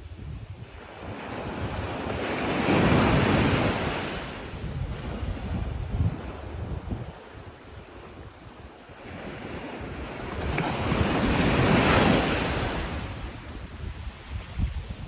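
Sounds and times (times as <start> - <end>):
sea waves breaking on beach: 0.5 - 15.0.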